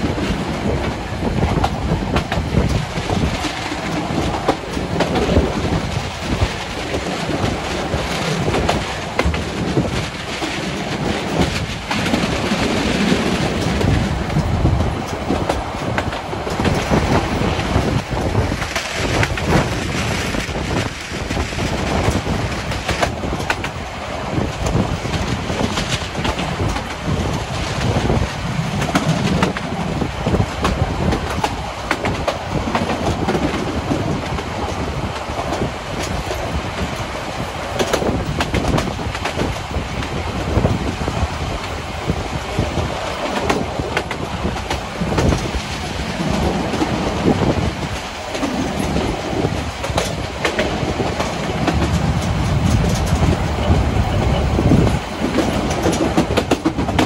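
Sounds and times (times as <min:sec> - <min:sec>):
train rumble: 0:00.0 - 0:57.0
wheels clacking over rail joints: 0:00.0 - 0:57.0.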